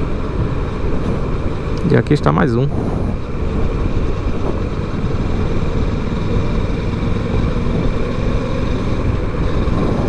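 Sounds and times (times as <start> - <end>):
motorcycle engine cruising: 0.0 - 10.0
wind rush over microphone: 0.0 - 10.0.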